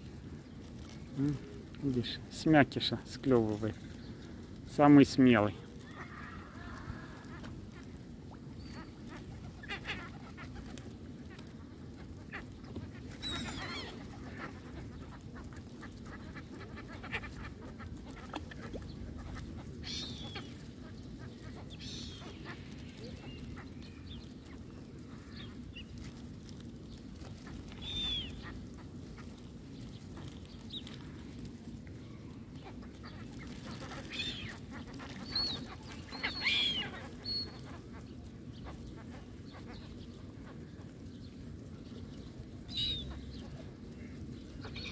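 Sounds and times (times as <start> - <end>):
low background noise: 0.0 - 44.9
waterbirds calling: 1.9 - 26.0, 26.7 - 31.0, 32.5 - 41.2.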